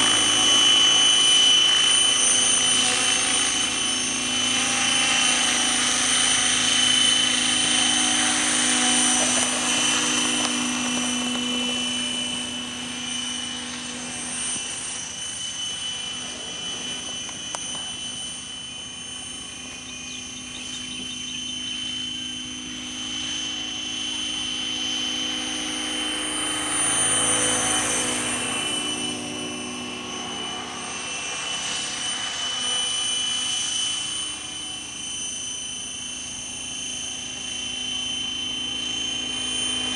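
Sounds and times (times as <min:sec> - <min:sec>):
helicopter rotor noise: 0:00.0 - 0:39.9
model helicopter motor whine: 0:00.0 - 0:39.9.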